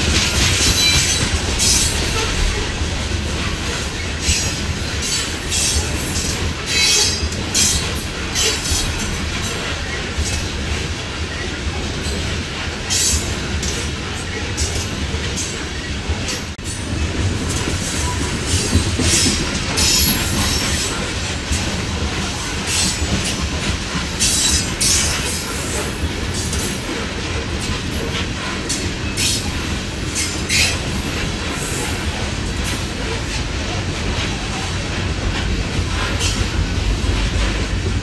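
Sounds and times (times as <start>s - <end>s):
train wheels rumbling and clattering: 0.0s - 38.0s.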